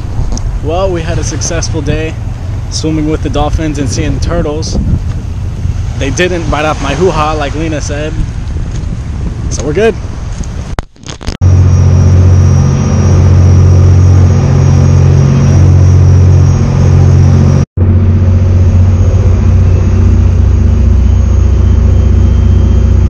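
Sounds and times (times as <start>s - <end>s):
boat engine rumble: 0.0s - 23.0s
faint high whine: 0.3s - 8.4s, 11.4s - 23.0s.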